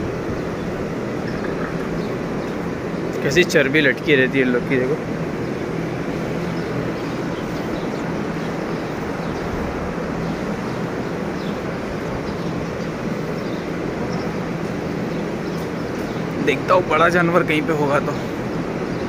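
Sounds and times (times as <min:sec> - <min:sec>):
low motor hum: 0:00.0 - 0:19.0
ventilation fans rushing air: 0:00.0 - 0:19.0.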